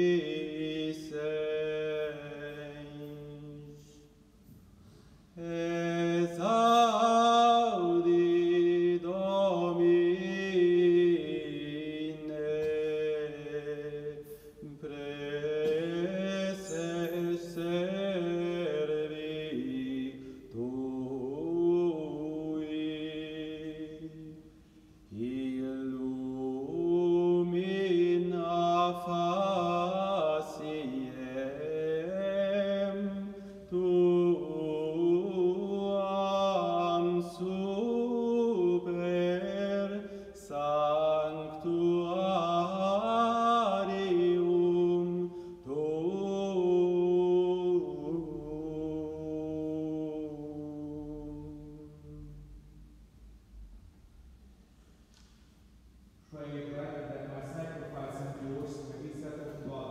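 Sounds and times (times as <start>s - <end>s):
male chant: 0.0s - 4.1s, 5.4s - 24.5s, 25.1s - 52.6s, 56.3s - 59.9s.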